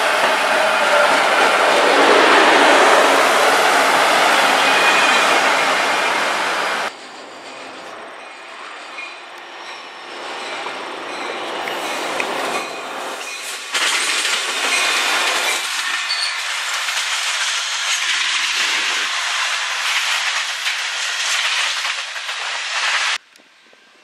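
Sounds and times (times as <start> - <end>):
freight train rumbling past: 0.0 - 24.0
train wheels on rails: 0.0 - 24.0.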